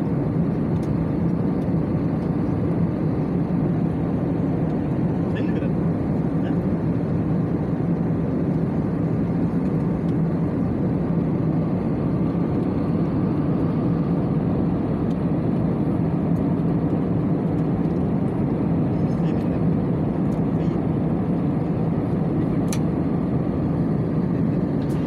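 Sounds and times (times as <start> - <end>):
airliner cabin jet engine noise: 0.0 - 25.0.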